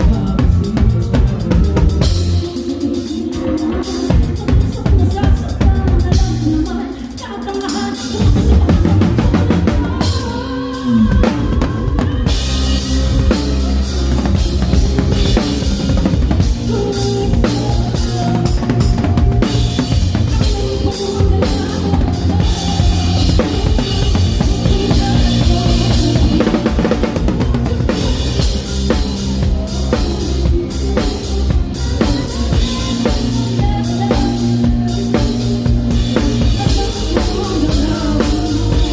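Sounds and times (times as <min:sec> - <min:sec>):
sustained bass notes: 0:00.0 - 0:06.7, 0:08.2 - 0:38.9
live band playing: 0:00.0 - 0:38.9.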